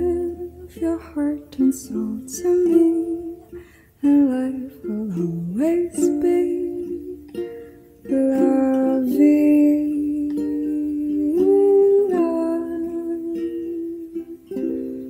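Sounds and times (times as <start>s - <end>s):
person singing long notes: 0.0s - 15.0s
ukulele accompaniment: 0.0s - 15.0s.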